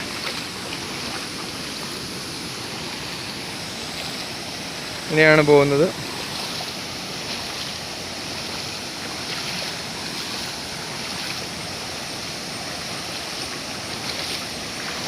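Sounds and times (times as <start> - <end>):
stream rushing over waterfall: 0.0 - 15.0.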